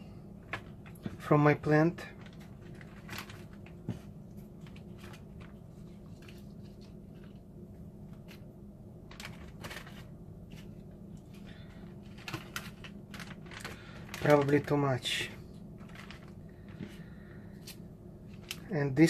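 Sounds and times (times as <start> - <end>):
plastic bags crinkling: 1.9 - 7.4, 9.0 - 19.0.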